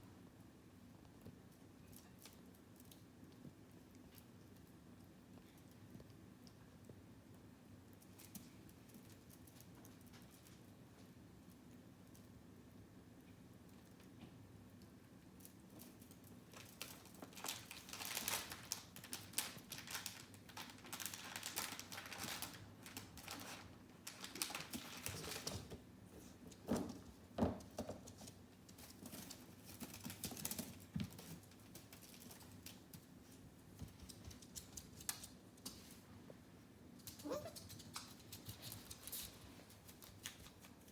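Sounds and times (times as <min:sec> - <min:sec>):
puppy rustling and scratching: 0:01.2 - 0:12.4, 0:15.0 - 0:40.9.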